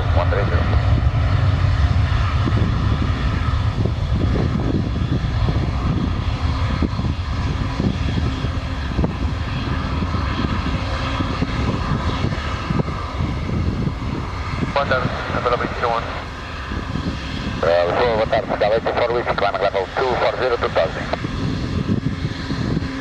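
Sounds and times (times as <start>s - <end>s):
faint engine whine: 0.0s - 23.0s
jet engines rumbling: 0.0s - 23.0s.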